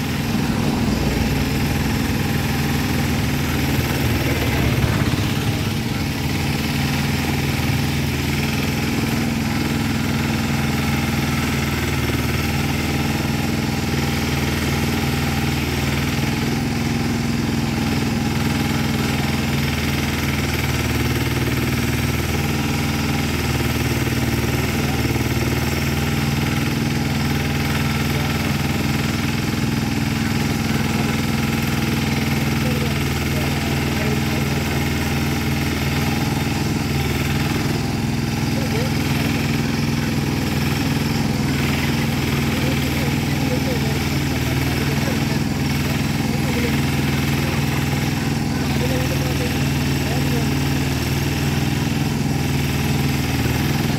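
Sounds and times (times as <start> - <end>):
backhoe engine running: 0.0 - 53.9.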